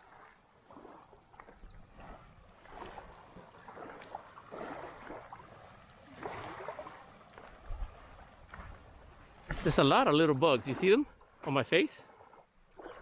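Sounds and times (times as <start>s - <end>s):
small waves washing onto a beach: 0.0s - 13.0s.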